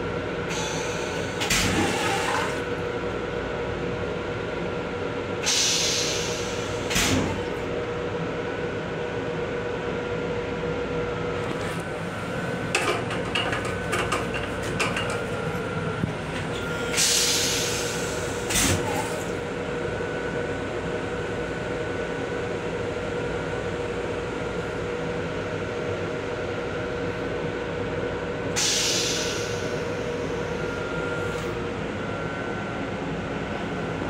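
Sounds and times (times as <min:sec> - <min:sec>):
train running hum: 0:00.0 - 0:34.0.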